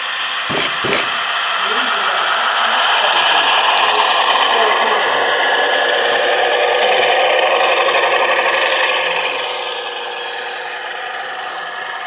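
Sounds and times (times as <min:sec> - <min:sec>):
model train rattling on track: 0:00.0 - 0:12.0.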